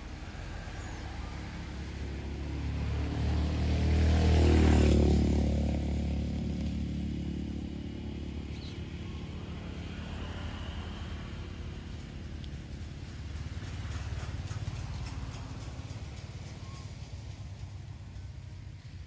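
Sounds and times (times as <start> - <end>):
low engine hum: 0.0 - 19.0
vehicle engine passing by: 0.0 - 19.0.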